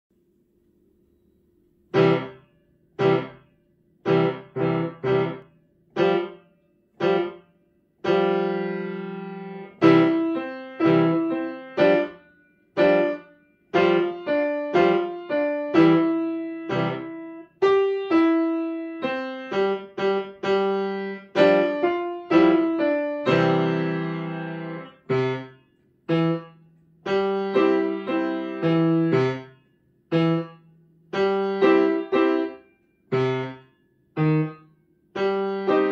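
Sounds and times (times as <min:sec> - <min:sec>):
grand piano playing: 0:01.9 - 0:02.4, 0:03.0 - 0:03.4, 0:04.0 - 0:06.4, 0:07.0 - 0:07.4, 0:08.0 - 0:35.9.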